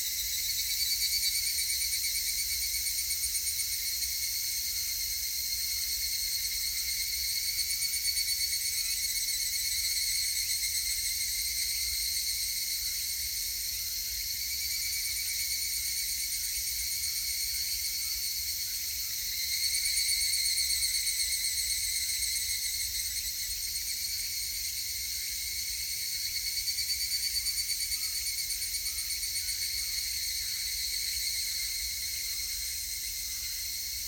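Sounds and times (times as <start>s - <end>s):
cicadas chorus: 0.0s - 34.0s
pulsing cicada call: 0.0s - 34.0s.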